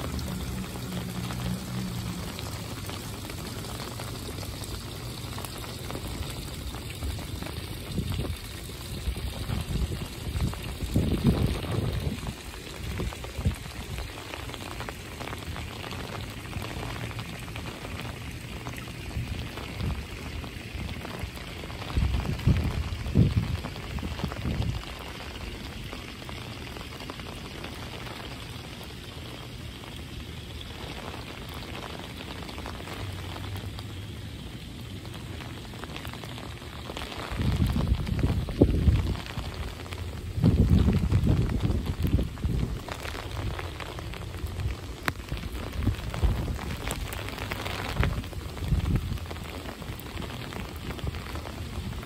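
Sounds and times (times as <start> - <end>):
wind rumble on microphone: 0.0 - 26.1, 34.6 - 52.0
rain on brick paving and foliage: 0.0 - 52.0.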